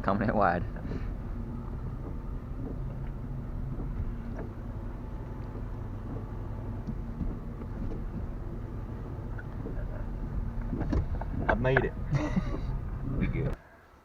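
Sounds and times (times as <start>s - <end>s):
car engine running at low revs: 0.0s - 13.6s.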